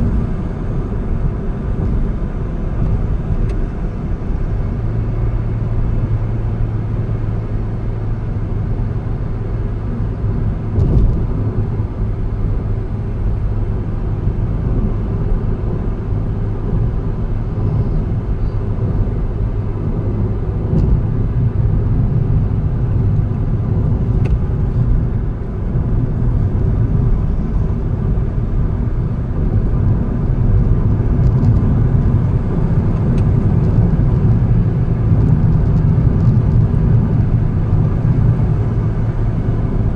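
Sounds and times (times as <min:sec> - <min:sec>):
car engine hum: 0:00.0 - 0:39.9
tyre and road noise: 0:00.0 - 0:39.9.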